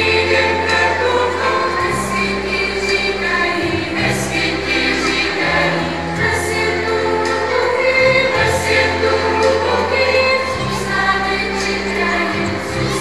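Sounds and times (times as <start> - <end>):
choir singing: 0.0 - 13.0
long-held low bass notes: 0.0 - 13.0.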